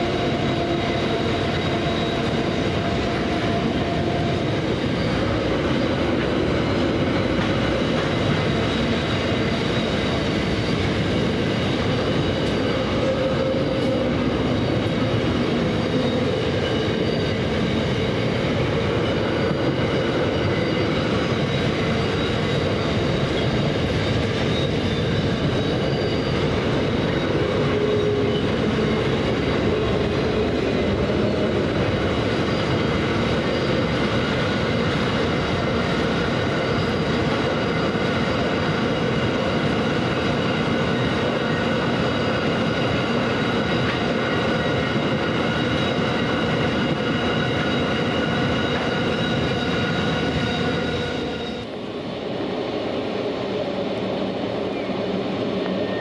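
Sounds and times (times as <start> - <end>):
high wheel squeal: 0.0 - 51.8, 54.7 - 56.0
train wheels rumbling on rail: 0.0 - 56.0.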